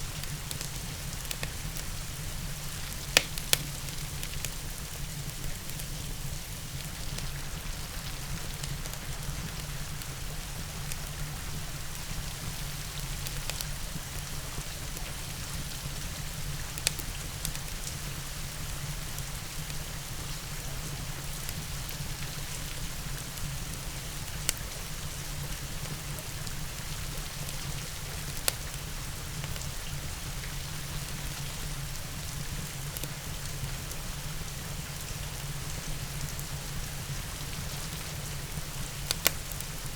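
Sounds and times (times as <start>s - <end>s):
steady rain: 0.0s - 39.9s
wood fire crackling and popping: 0.1s - 7.4s, 10.8s - 18.8s, 21.2s - 35.5s, 36.2s - 39.9s.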